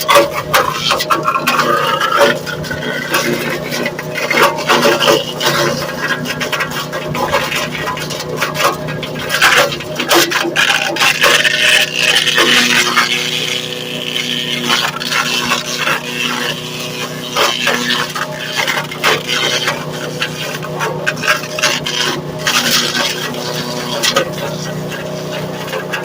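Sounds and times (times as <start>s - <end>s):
crackle of branches being chipped: 0.0s - 26.0s
wood chipper motor hum: 0.0s - 26.0s.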